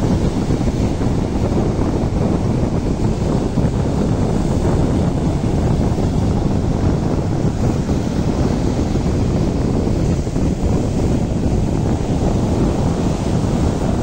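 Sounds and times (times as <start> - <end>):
sea waves washing onto beach: 0.0 - 14.0
wind buffeting microphone: 0.0 - 14.0.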